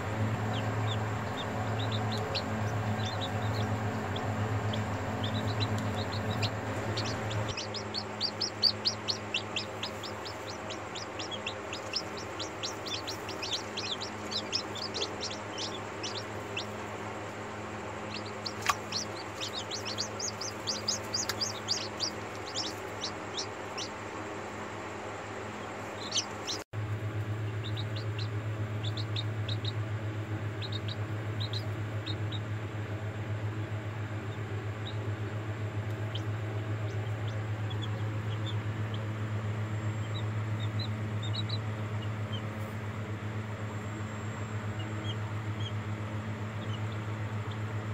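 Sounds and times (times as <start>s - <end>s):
chicks peeping: 0.0s - 47.9s
steady low hum: 0.0s - 47.9s.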